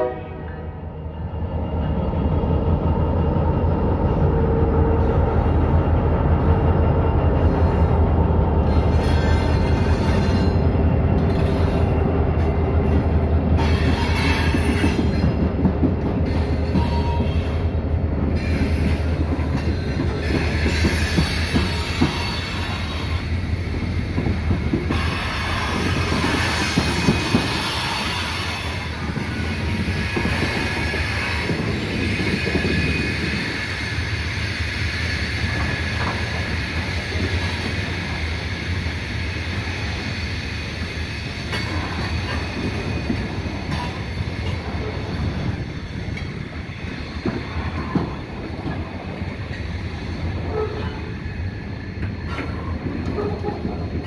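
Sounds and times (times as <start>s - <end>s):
train wheel clatter: 8.6s - 54.0s.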